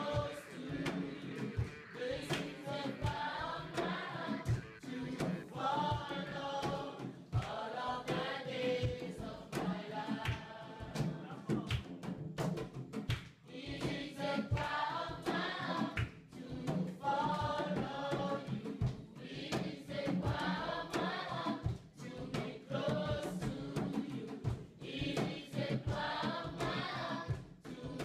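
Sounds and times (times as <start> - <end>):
choir singing: 0.0 - 11.6, 13.5 - 28.0
light percussive beat: 0.0 - 28.0.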